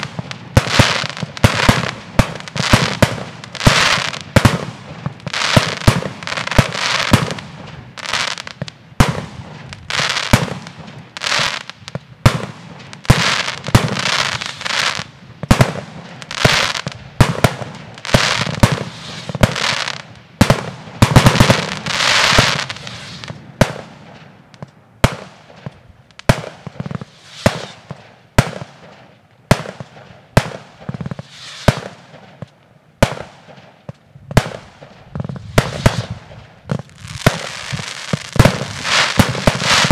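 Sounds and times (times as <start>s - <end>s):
fireworks bangs and thumps: 0.0s - 39.9s
fireworks crackling and fizzing: 0.0s - 39.9s.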